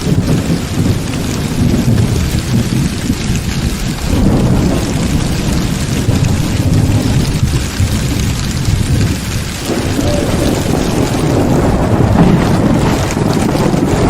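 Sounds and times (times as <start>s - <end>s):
heavy rain falling: 0.0s - 14.0s
low rumble of thunder: 0.0s - 14.0s.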